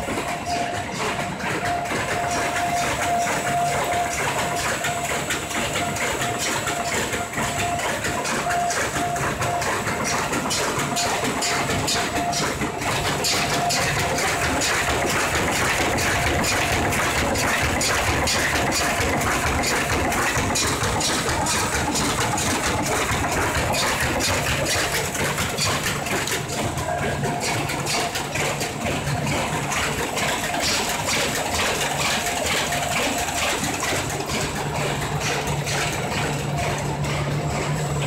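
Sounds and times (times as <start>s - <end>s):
cartons clattering through machine: 0.0s - 38.0s
low machine hum: 0.0s - 38.0s.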